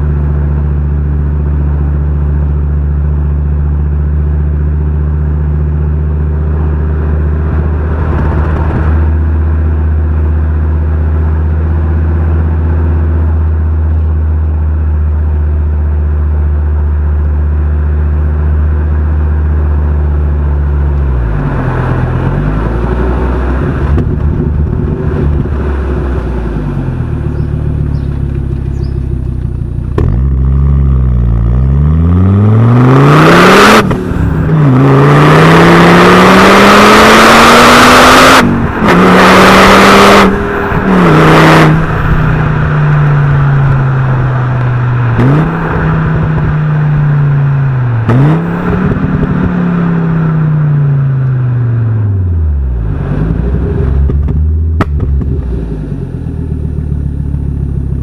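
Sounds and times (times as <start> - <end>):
car engine and exhaust revving: 0.0 - 58.0.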